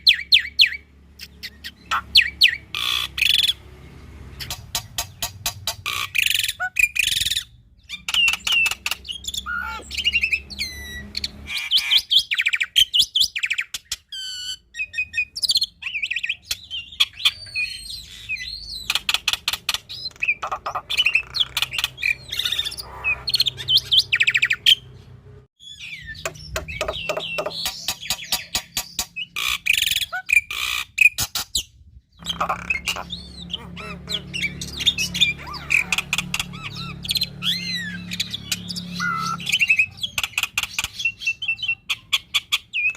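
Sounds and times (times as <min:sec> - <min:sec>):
bird singing with chattering rattles: 0:00.0 - 0:42.9.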